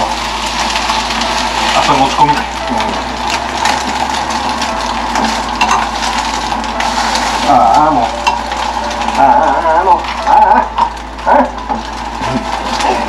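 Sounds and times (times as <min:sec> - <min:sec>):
egg sizzling in a frying pan: 0:00.0 - 0:13.0.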